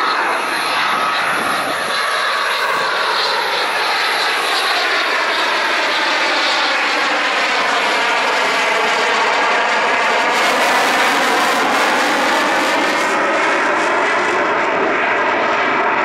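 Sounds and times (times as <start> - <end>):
fighter jet flying overhead: 0.0 - 16.0.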